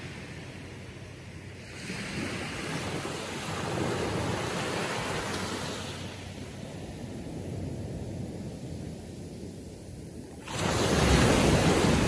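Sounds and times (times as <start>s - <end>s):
gentle wave washing up beach: 0.0s - 12.0s.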